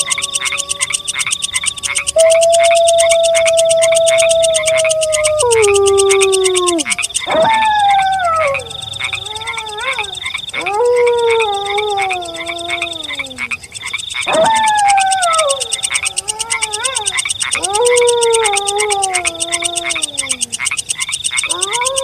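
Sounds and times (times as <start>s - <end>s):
wolf howls: 0.0s - 13.6s, 14.2s - 20.6s, 21.5s - 22.0s
frogs chorus: 0.0s - 22.0s.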